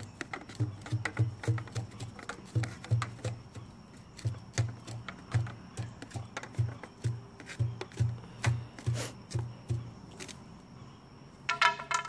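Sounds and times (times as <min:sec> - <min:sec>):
hollow thumps in a pipe: 0:00.2 - 0:10.0.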